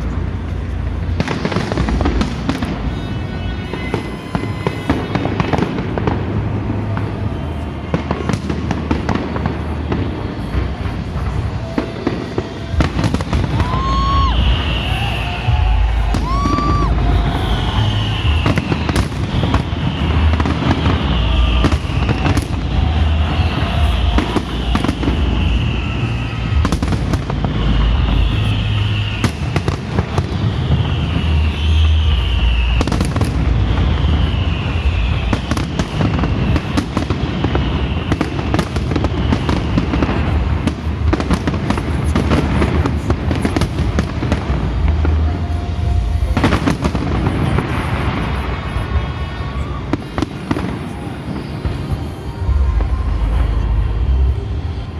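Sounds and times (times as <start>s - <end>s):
fireworks bangs and booms: 0.0s - 54.9s.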